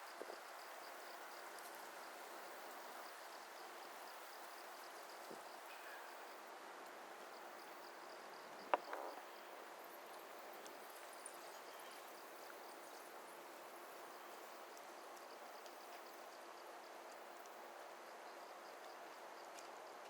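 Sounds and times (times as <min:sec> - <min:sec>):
crickets chirping: 0:00.0 - 0:20.0
soft steady hiss: 0:00.0 - 0:20.0.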